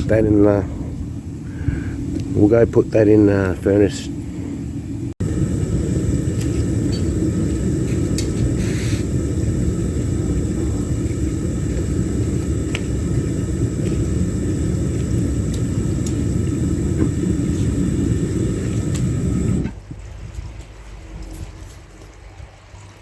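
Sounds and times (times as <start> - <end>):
furnace burner rumbling: 0.0 - 20.2.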